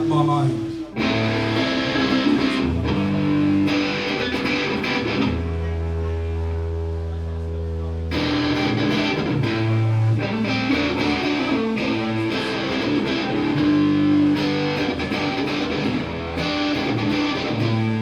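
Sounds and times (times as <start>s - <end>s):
bass notes: 0.0s - 18.0s
strummed electric guitar: 0.0s - 18.0s.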